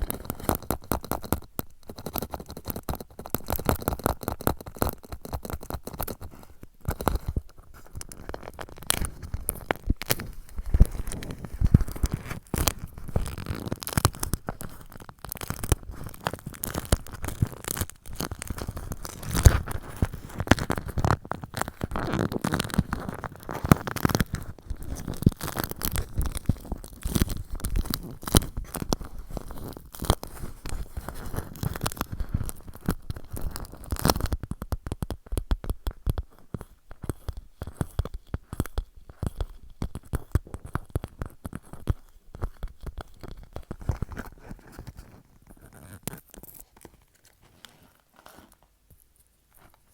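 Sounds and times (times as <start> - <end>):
fingers tapping plastic pouch: 0.0 - 49.9.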